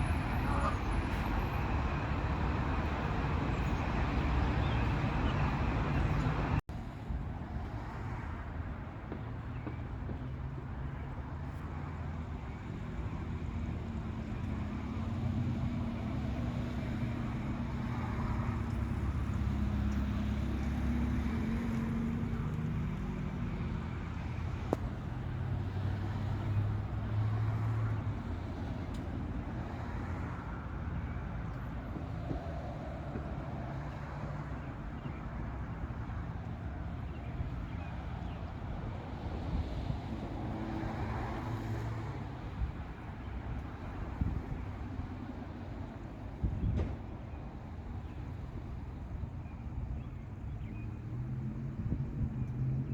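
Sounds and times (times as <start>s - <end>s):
motor vehicle rumbling: 0.0s - 52.9s
traffic noise: 0.0s - 52.9s.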